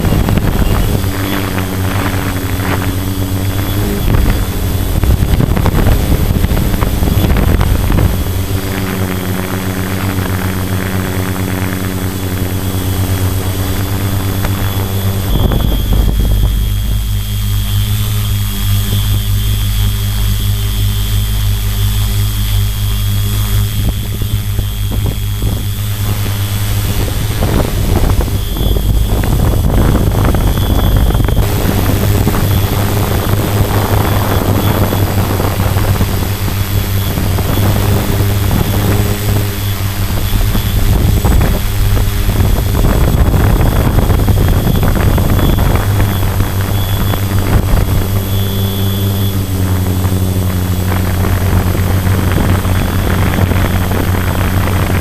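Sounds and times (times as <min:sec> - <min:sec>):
drone motors and propellers whining: 0:00.0 - 0:55.0
rushing noise: 0:00.0 - 0:55.0.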